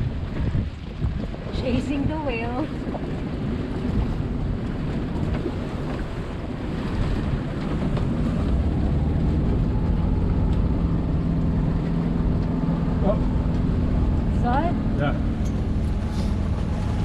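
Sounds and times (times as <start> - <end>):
wind buffeting microphone: 0.0 - 17.0
boat engine drone: 0.1 - 17.0
low rumble: 2.9 - 17.0.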